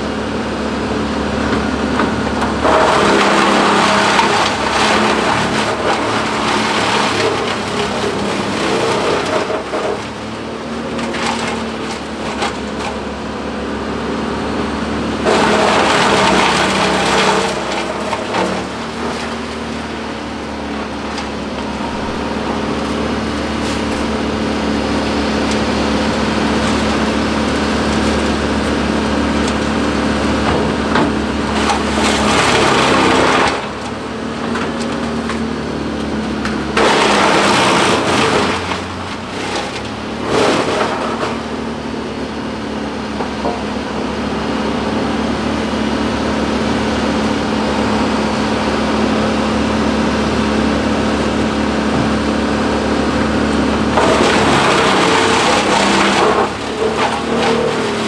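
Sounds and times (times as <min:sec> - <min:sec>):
diesel engines running: 0:00.0 - 0:58.0
wood chipper chewing wood: 0:00.0 - 0:58.0.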